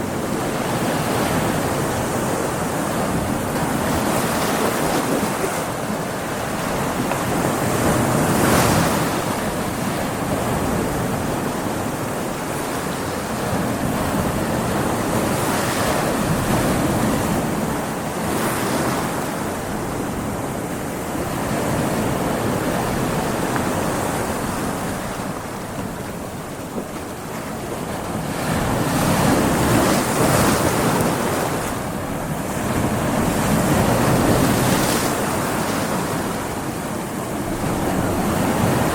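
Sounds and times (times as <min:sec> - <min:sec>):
waves breaking against rocks: 0:00.2 - 0:38.9.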